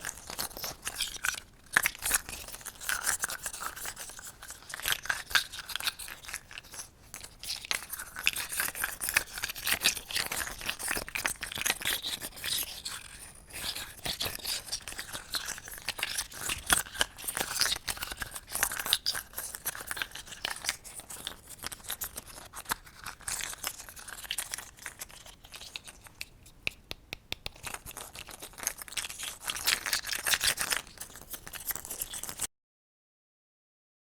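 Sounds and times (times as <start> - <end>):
scratchy crackling and crinkling: 0.0 - 26.8, 27.5 - 32.5.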